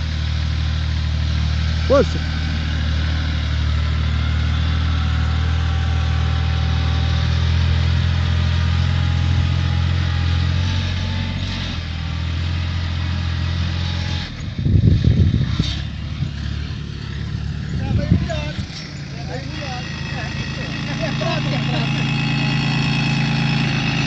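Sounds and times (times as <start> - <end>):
loud irregular low rumbling: 0.0 - 24.0
tractor diesel engine running: 0.0 - 24.0.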